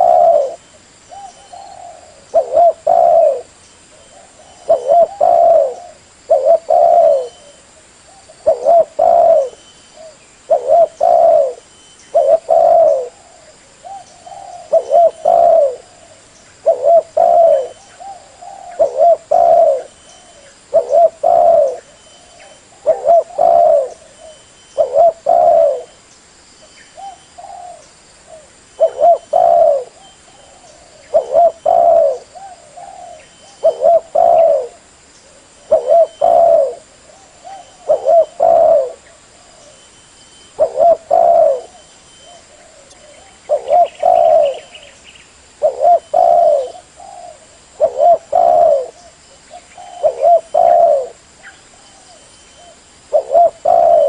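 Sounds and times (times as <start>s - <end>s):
dove cooing: 0.0s - 26.0s, 27.0s - 45.0s, 45.6s - 54.0s.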